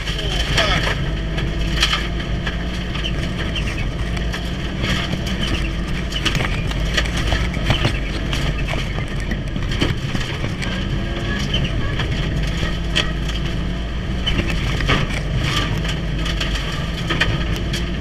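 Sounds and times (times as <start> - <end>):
car engine running hard: 0.0 - 18.0
short knocks and rattles: 0.0 - 18.0.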